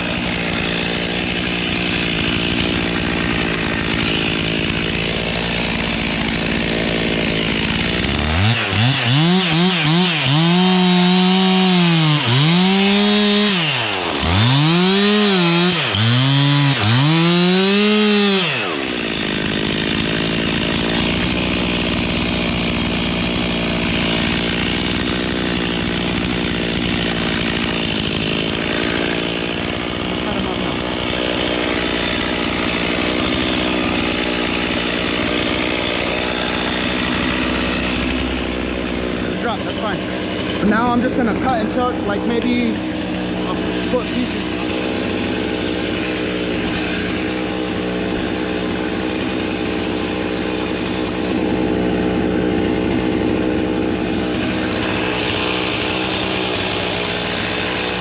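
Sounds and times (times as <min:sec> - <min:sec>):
chainsaw running and revving: 0:00.0 - 0:58.0.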